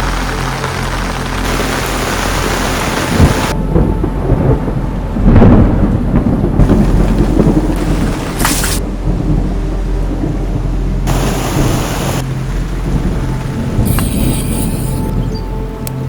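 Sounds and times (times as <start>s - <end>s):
heavy rain hissing: 0.0s - 4.5s, 6.6s - 15.2s
rolling thunder: 1.4s - 15.4s.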